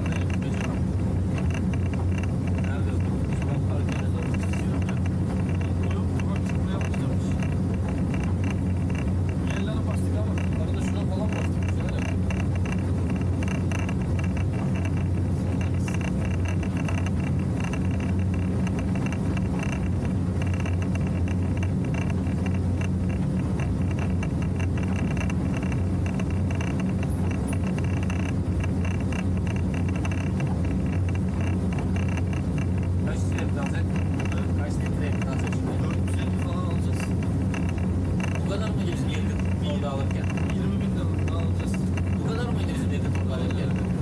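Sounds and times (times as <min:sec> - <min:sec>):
motorboat engine droning: 0:00.0 - 0:44.0.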